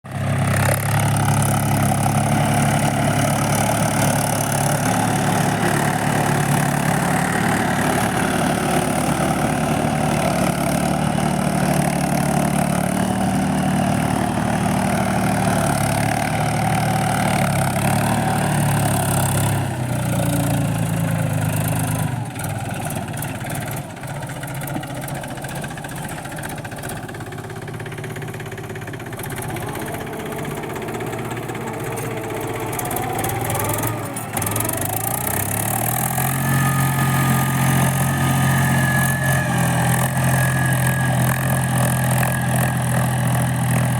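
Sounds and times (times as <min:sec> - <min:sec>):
tractor diesel engine running: 0:00.1 - 0:43.9.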